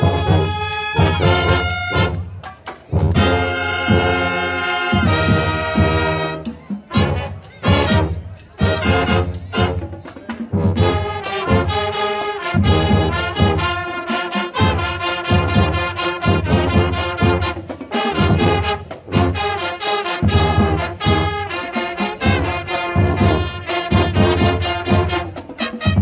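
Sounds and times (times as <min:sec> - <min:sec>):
drum strokes: 0:00.0 - 0:26.0
marching band playing: 0:00.0 - 0:26.0.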